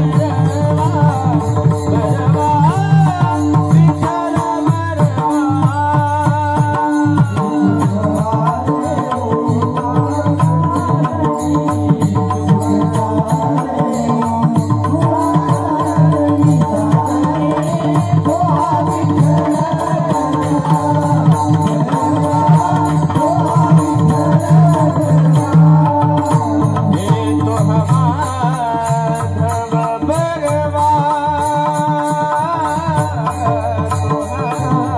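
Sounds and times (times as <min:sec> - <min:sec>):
hand drum: 0:00.0 - 0:34.9
metallic percussion strokes: 0:00.0 - 0:34.9
person singing: 0:00.0 - 0:34.9.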